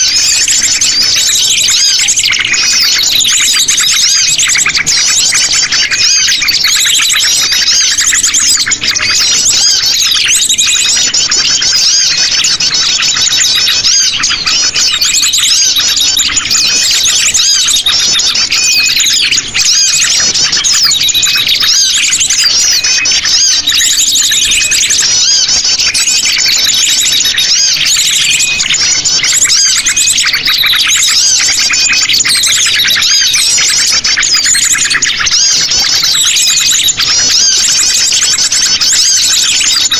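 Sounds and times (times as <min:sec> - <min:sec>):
flock of birds chirping and trilling: 0:00.0 - 0:39.9.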